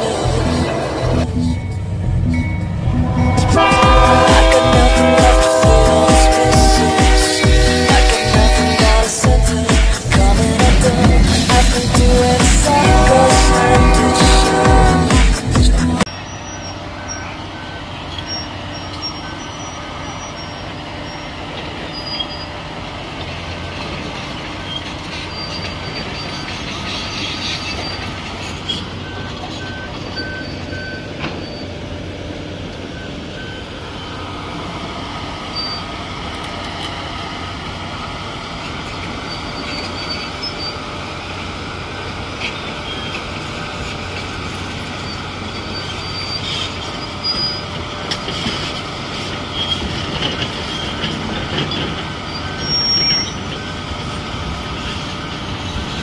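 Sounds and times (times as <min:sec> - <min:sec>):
track machine running: 0:00.0 - 0:56.0.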